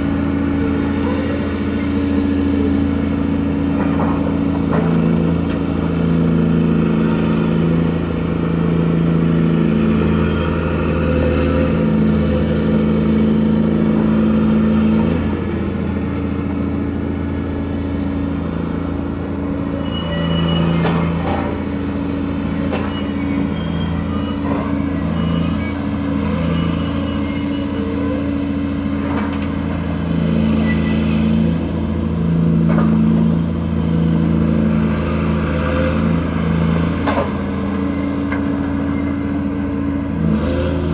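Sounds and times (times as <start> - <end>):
crane diesel engine running: 0.0 - 40.9.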